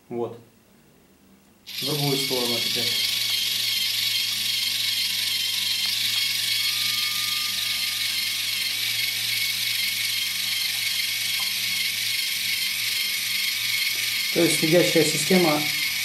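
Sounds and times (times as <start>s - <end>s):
small electric motor gear whir: 1.7s - 16.0s.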